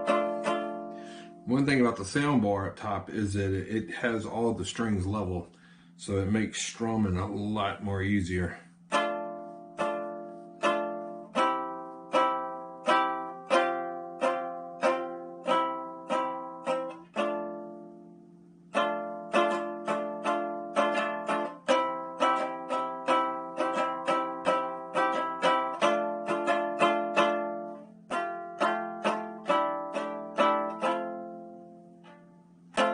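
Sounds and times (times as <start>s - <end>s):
lyre strummed chords: 0.0s - 32.9s.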